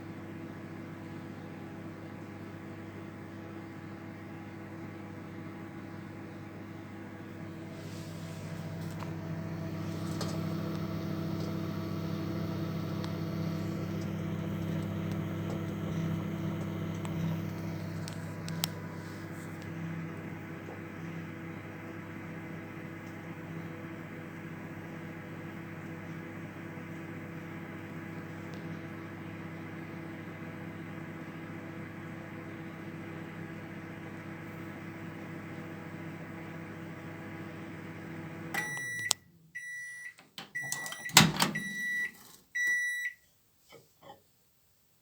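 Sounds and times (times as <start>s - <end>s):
microwave oven humming: 0.0s - 43.1s.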